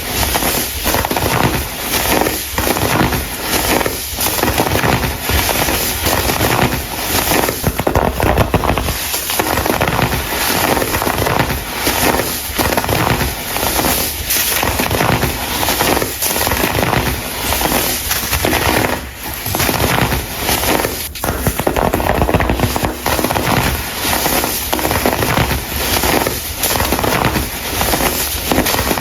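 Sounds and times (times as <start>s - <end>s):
crumble crackling crunch: 0.0s - 29.0s.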